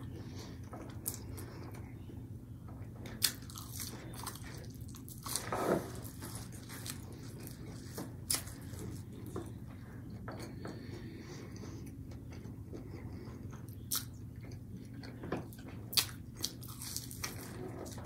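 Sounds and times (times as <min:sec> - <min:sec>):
chewing crunchy food: 0:00.0 - 0:18.0
low steady hum: 0:00.0 - 0:18.0.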